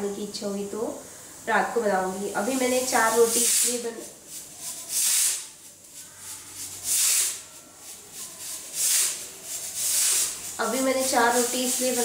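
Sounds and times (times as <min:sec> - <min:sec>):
short hissing bursts: 0:00.9 - 0:12.0.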